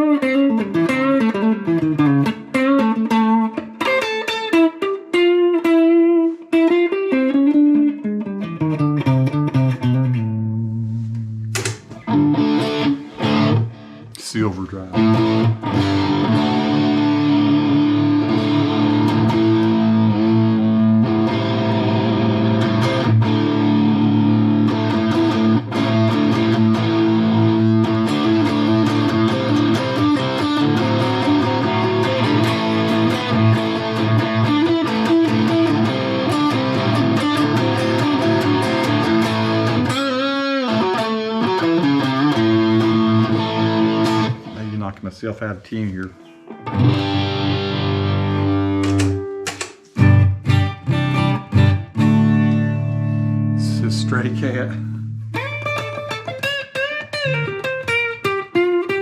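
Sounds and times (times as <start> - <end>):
distorted electric guitar: 0.0 - 44.8, 46.2 - 59.0.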